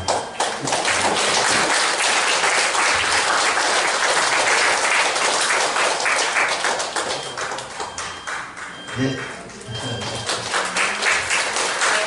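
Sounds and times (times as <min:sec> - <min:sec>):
audience applauding: 0:00.0 - 0:09.2, 0:10.0 - 0:12.0.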